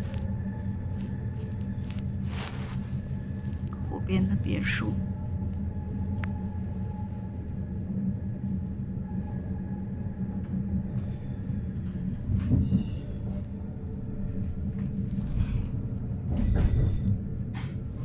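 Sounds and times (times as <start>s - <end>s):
faint hum: 0.0s - 18.0s
train wheels rumbling on rails: 0.0s - 18.0s.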